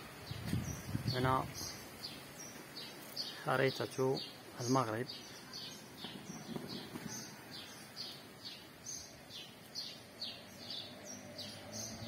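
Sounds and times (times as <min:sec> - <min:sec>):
small bird chirping: 0:00.2 - 0:12.0.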